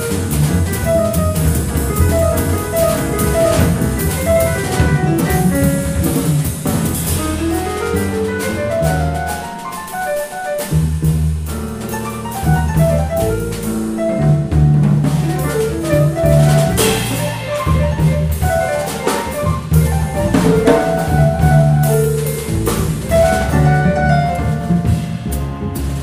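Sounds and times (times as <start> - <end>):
drums and cymbals: 0.0 - 26.0
piano chords: 0.0 - 26.0
walking double bass: 0.0 - 26.0.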